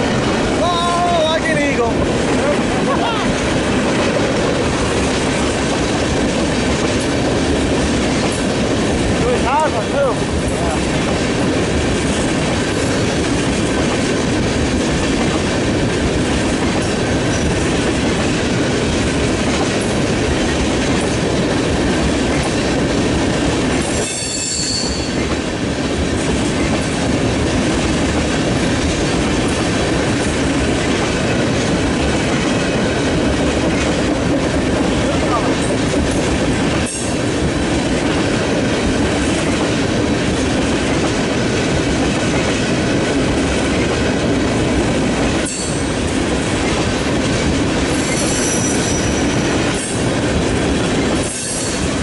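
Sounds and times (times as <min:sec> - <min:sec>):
freight train rolling past: 0:00.0 - 0:52.0
wheels clacking over rail joints: 0:00.0 - 0:52.0.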